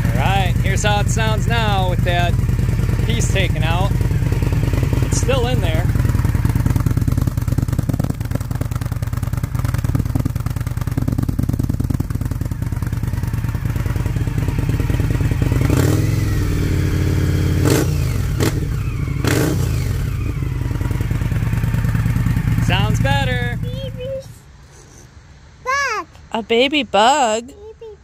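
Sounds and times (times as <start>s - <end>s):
exhaust cracks: 0.0s - 24.2s
motorcycle engine idling: 0.0s - 24.6s.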